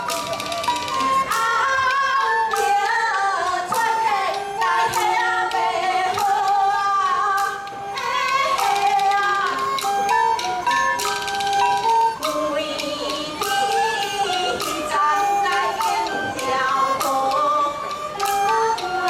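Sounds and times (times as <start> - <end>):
instrumental accompaniment: 0.0 - 19.0
sharp percussion strikes: 0.0 - 19.0
woman singing opera melody: 1.3 - 10.1, 12.2 - 19.0.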